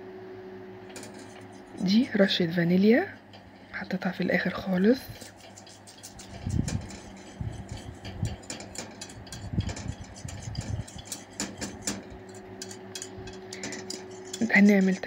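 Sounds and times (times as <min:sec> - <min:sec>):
steady low hum: 0:00.0 - 0:15.0
whisk scraping a saucepan: 0:00.9 - 0:02.5, 0:03.5 - 0:15.0.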